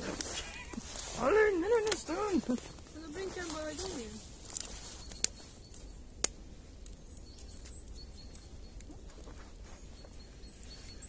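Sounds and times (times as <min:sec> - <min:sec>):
fire popping: 0:00.0 - 0:11.0
wood fire crackling: 0:00.0 - 0:11.0.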